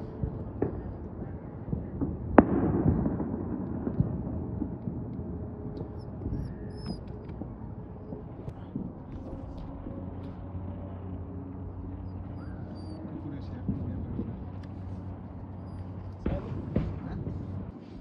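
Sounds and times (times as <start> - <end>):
rumbling echo: 0.0 - 18.0.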